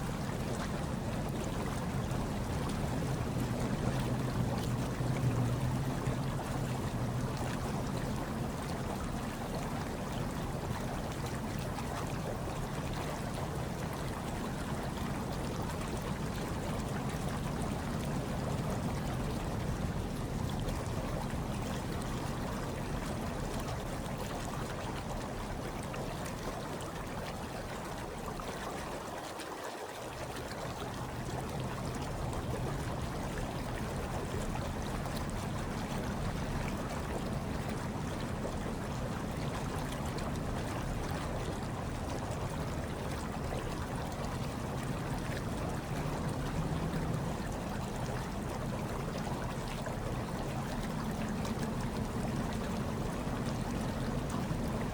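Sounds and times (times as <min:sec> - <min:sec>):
hot tub water bubbling: 0:00.0 - 0:54.9.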